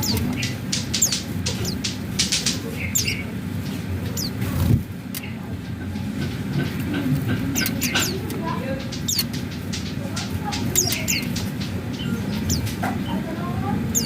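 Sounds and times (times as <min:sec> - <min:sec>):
birds chirping and twittering: 0:00.0 - 0:14.0.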